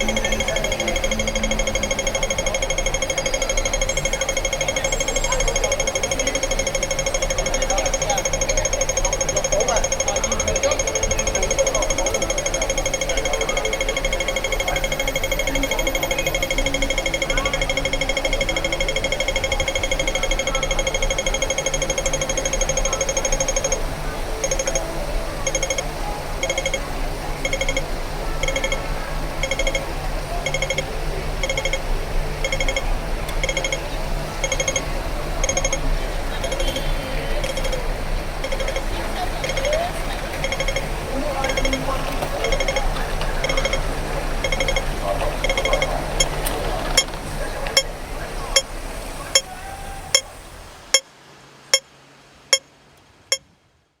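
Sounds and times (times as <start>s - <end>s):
crossing signal electronic ticks: 0.0s - 49.5s
street traffic hum: 0.0s - 53.4s.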